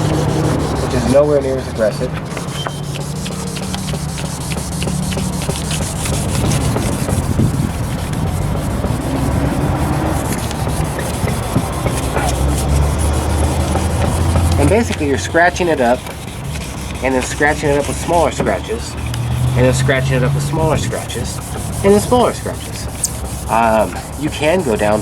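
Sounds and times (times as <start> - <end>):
sandpaper scratching on plastic: 0.0 - 25.0.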